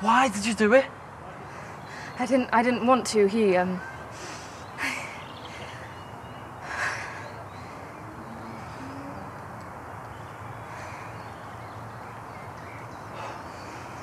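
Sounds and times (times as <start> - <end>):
distant bird calls: 0.0 - 14.0
steady background hiss: 0.0 - 14.0.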